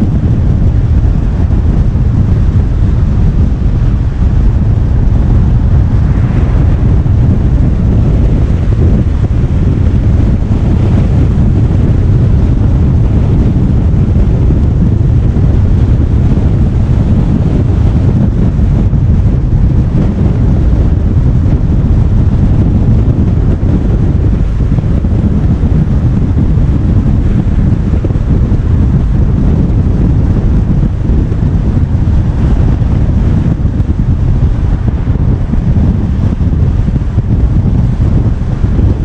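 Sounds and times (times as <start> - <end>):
car road noise: 0.0 - 39.0
wind buffeting microphone: 0.0 - 39.0.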